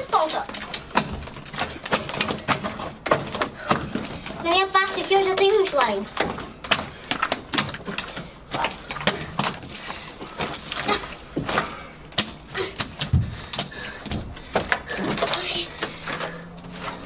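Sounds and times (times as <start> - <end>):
slime kneaded by hand: 0.0 - 17.0.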